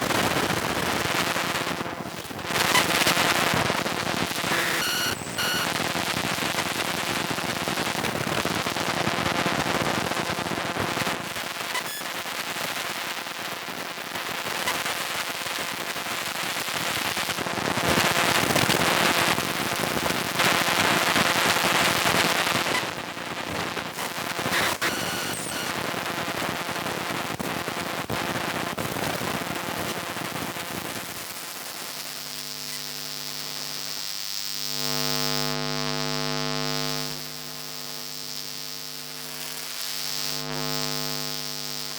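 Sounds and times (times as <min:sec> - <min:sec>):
crackling static: 0:00.0 - 0:41.9.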